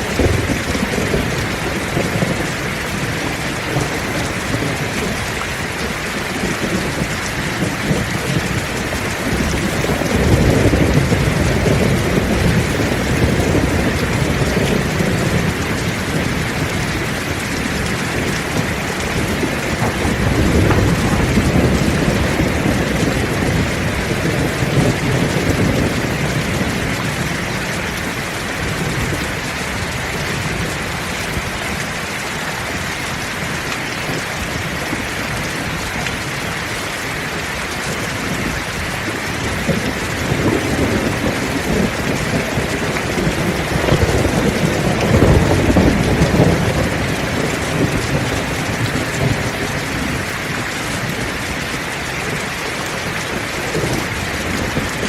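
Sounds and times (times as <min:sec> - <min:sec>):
low rolling thunder: 0:00.0 - 0:36.7, 0:37.4 - 0:55.0
heavy rain pouring: 0:00.0 - 0:55.0.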